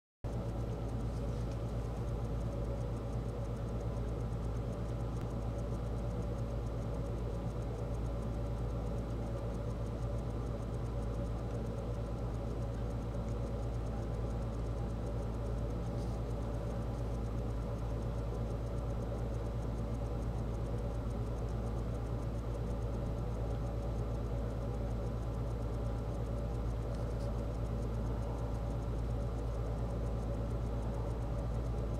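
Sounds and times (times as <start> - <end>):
low mechanical hum: 0.2 - 31.9
faint steady tones: 0.3 - 31.9
faint ticks: 0.3 - 31.9.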